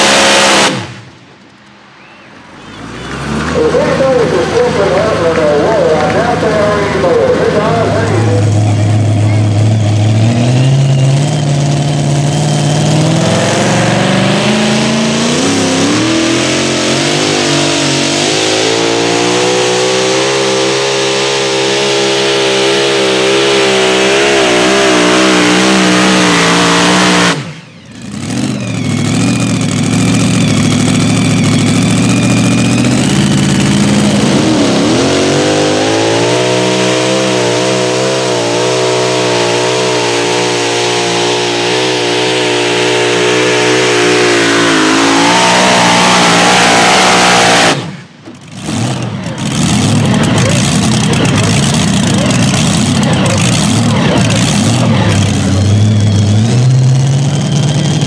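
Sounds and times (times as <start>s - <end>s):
truck engines revving high: 0.0s - 58.0s.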